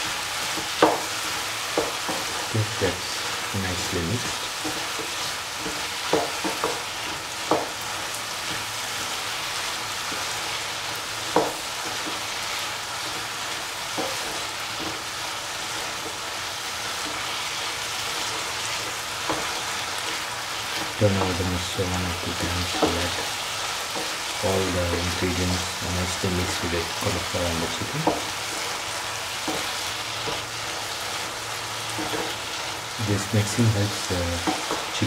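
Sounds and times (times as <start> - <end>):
food sizzling in a pan: 0.0 - 35.0.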